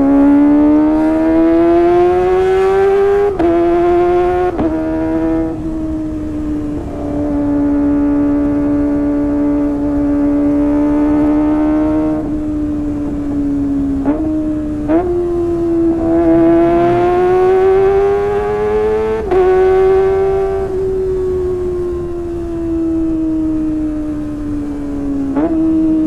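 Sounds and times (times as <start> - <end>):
motorcycle engine howling: 0.0 - 26.0.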